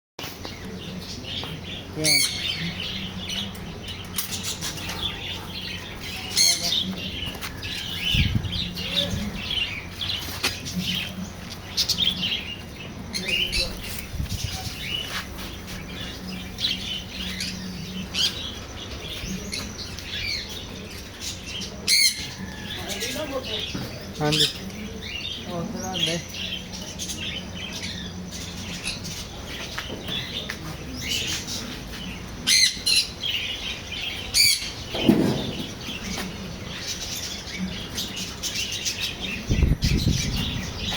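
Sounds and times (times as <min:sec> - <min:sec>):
small birds chirping: 0:00.2 - 0:40.9.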